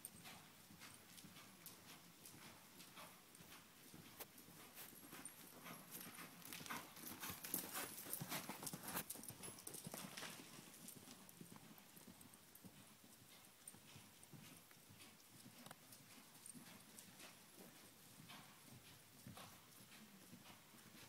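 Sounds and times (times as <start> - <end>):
horse hoofbeats on dirt: 0.0 - 21.0.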